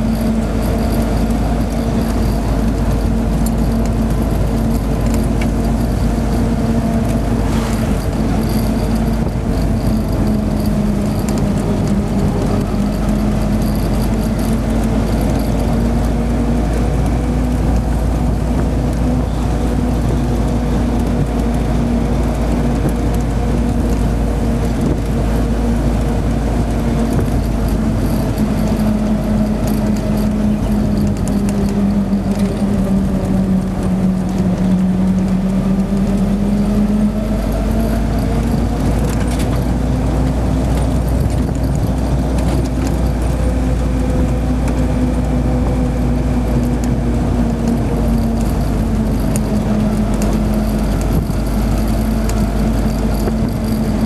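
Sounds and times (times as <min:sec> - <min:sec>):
jeep engine running: 0:00.0 - 0:54.0
low road rumble: 0:00.0 - 0:54.0.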